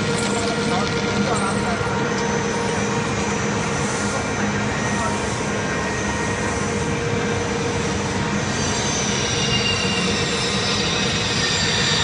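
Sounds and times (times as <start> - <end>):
extruder machine drone: 0.0 - 12.0
thin whining tones: 1.3 - 12.0.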